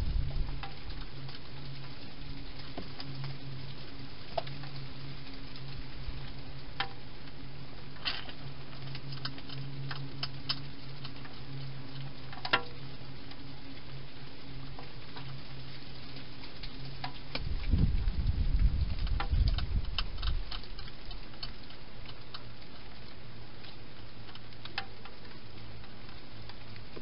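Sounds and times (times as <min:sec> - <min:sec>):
hedgehog chewing and crunching: 0:00.0 - 0:27.0
steady low hum: 0:00.0 - 0:27.0.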